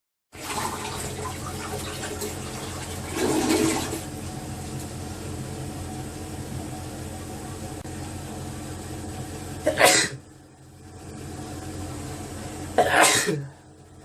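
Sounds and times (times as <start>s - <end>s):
steady background hum: 0.4s - 14.0s.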